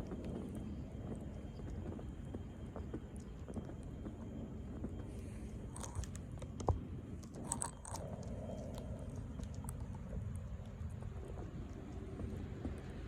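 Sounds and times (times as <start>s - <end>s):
crunching clicks: 0.0s - 13.0s
steady low rumble: 0.0s - 13.0s.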